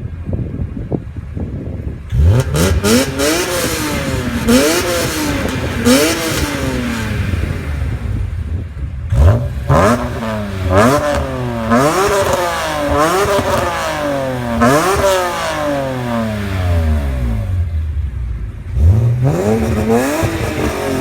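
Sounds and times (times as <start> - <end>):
car engine revving in blips: 2.1 - 21.0.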